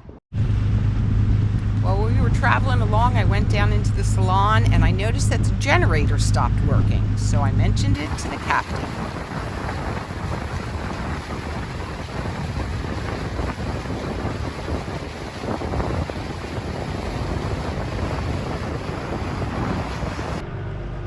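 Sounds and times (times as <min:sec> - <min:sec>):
wind on microphone: 0:00.0 - 0:20.4
boat and water rumble: 0:00.0 - 0:21.0.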